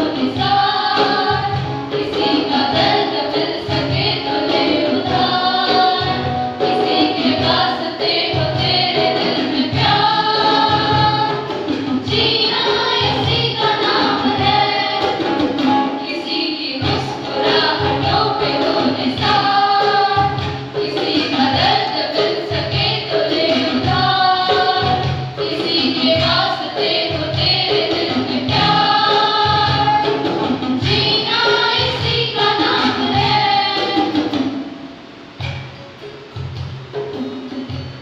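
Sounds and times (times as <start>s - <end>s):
girls singing in unison: 0.0s - 34.7s
acoustic guitar: 0.0s - 38.0s.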